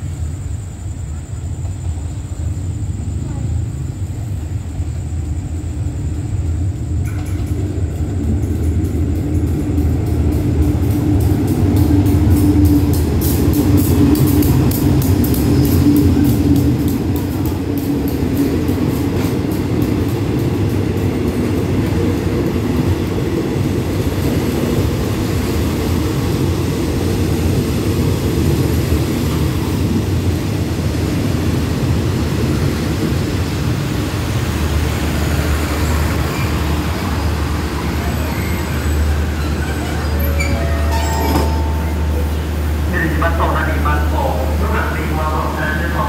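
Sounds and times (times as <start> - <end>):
train coaches rolling past: 0.0 - 46.0.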